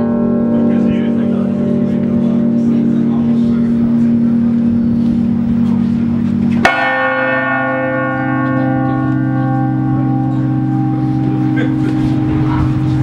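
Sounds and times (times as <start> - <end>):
hum of ringing bells: 0.0 - 13.0
loud bell strike: 0.0 - 13.0.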